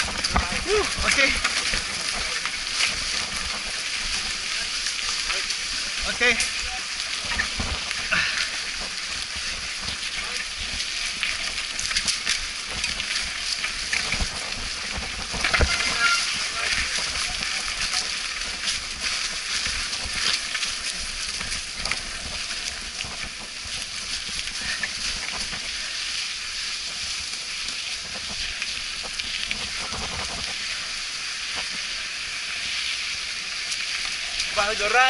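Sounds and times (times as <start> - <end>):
tyre and wind hiss: 0.0 - 35.0.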